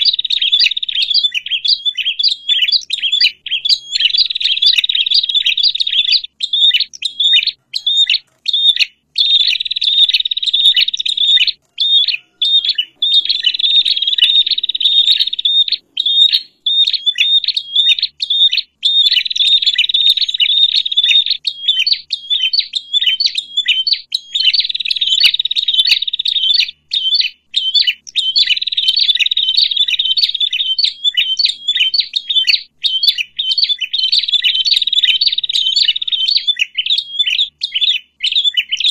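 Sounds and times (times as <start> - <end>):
songbirds chattering: 0.0 - 38.9.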